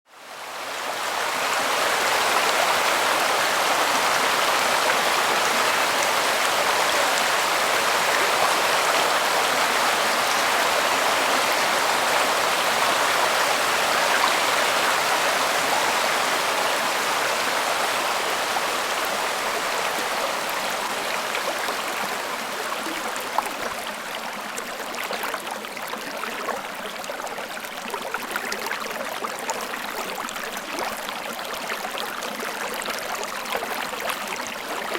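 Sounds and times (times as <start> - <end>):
creek water rushing over rocks: 0.1 - 34.9.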